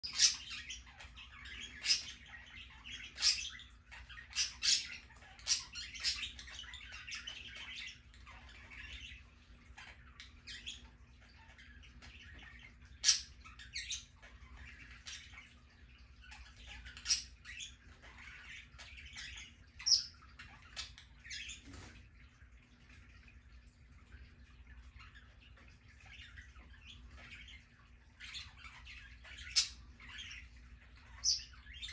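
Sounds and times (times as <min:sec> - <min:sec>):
faint steady hum: 0:00.0 - 0:31.9
parakeets chirping: 0:00.0 - 0:31.9.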